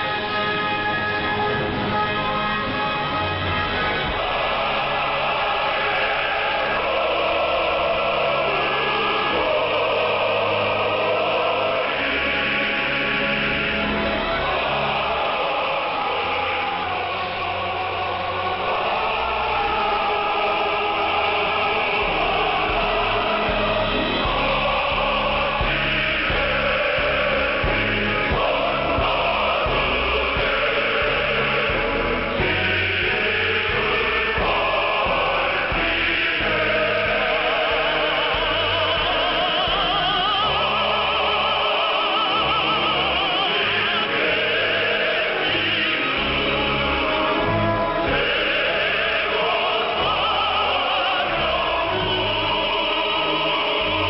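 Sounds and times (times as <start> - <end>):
operatic singing on shortwave radio: 0.0 - 54.0.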